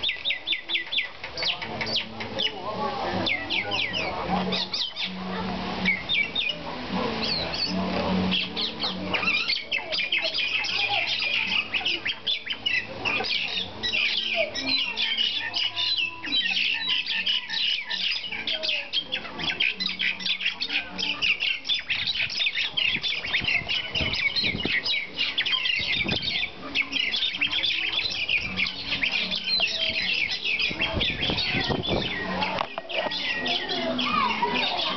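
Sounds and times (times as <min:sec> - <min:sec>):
mynas squawking and chattering: 0:00.0 - 0:34.9.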